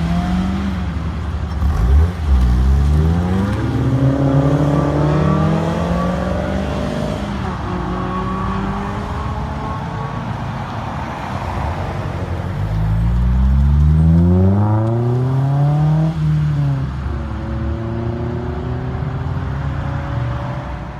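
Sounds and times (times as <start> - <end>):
cars driving past: 0.0 - 20.9.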